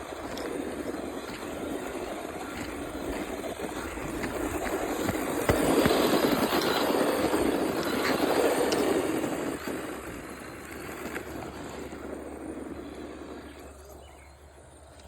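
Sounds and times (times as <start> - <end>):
rc car driving on hard surface: 0.0 - 15.0.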